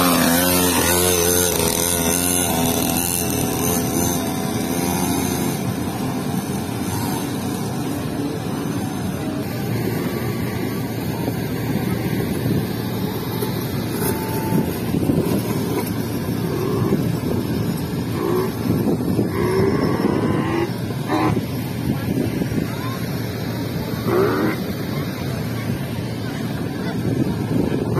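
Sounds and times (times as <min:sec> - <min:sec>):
small ride-on vehicle motors: 0:00.0 - 0:27.9
wind rumble on microphone: 0:05.4 - 0:27.9.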